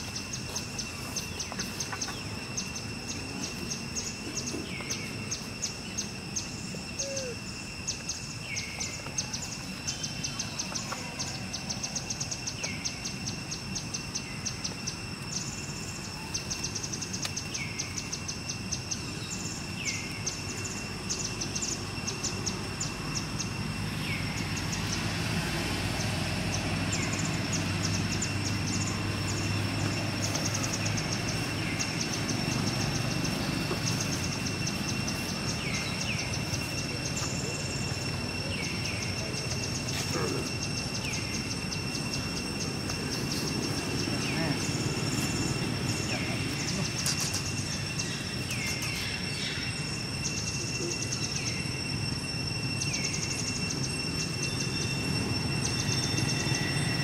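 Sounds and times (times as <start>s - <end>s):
high insect drone: 0.0s - 57.0s
motor engine low hum: 0.0s - 57.0s
rapid high ticking chirps: 0.0s - 57.0s.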